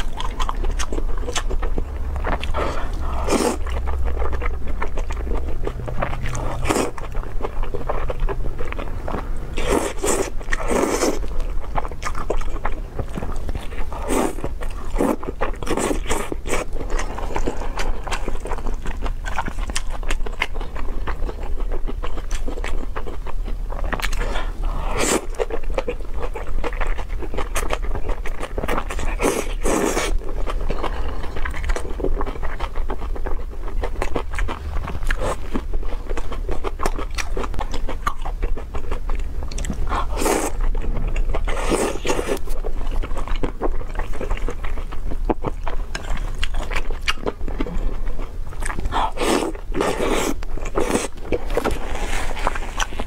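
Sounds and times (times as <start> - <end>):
wet chewing of noodles: 0.0 - 53.0.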